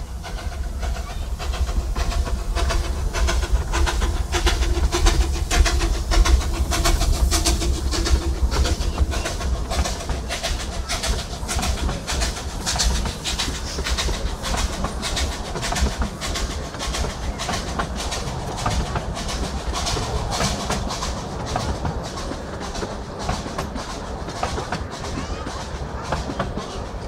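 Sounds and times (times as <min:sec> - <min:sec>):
low rumble of carriages: 0:00.0 - 0:27.0
wheels clicking over rail joints: 0:00.0 - 0:27.0.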